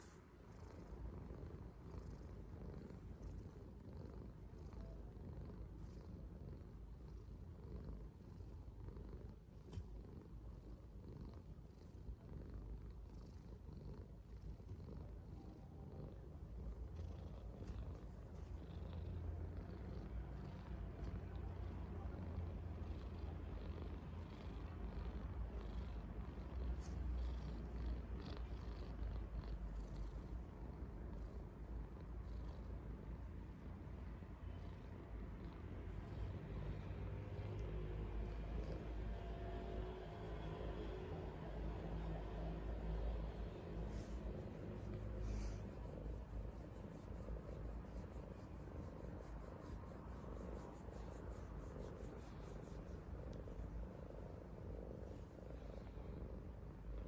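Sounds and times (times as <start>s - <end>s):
cat purring: 0.0s - 57.0s.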